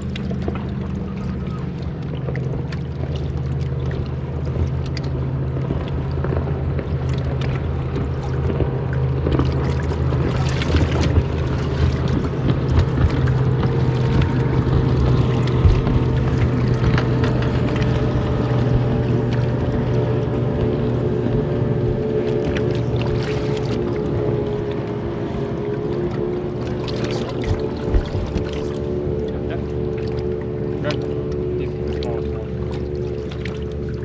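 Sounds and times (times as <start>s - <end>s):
outboard motor droning: 0.0s - 34.0s
water splashing: 0.0s - 34.0s.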